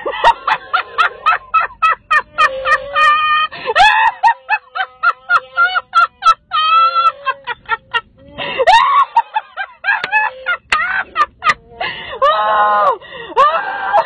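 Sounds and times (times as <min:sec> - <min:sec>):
woman laughing hysterically: 0:00.0 - 0:14.0.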